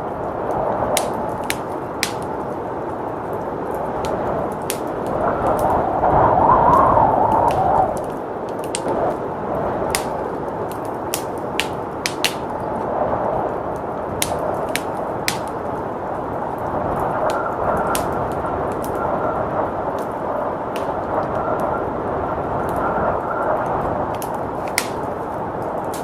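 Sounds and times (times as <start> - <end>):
blizzard wind rushing: 0.0 - 26.0
wood fire crackling: 0.0 - 26.0.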